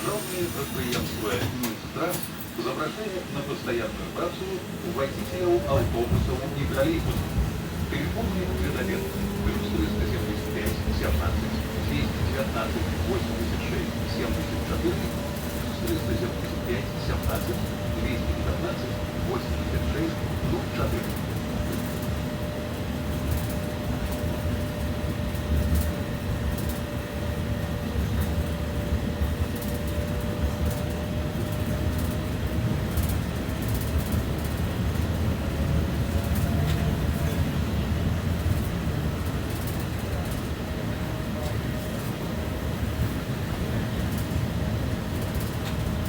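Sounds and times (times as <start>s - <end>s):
tram wheels rumbling on rail: 0.0s - 46.0s.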